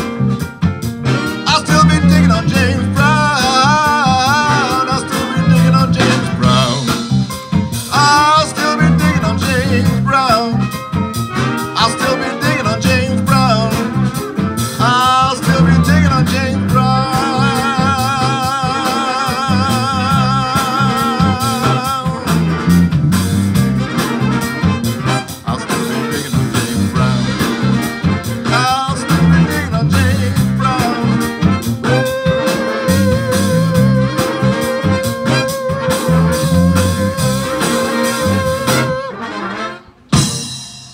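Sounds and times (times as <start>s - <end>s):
live band with saxophones and brass: 0.0s - 40.9s
man singing: 1.3s - 22.9s, 25.1s - 39.2s.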